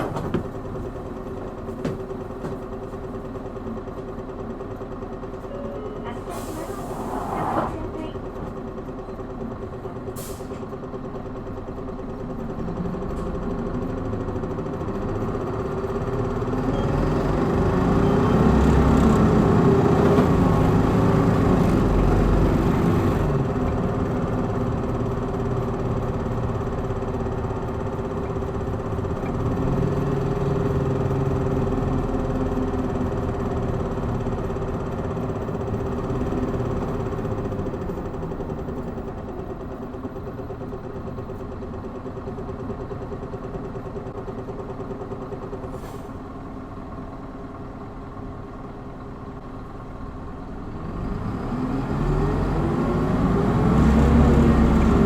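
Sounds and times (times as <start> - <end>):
bus engine accelerating: 0.0 - 55.0.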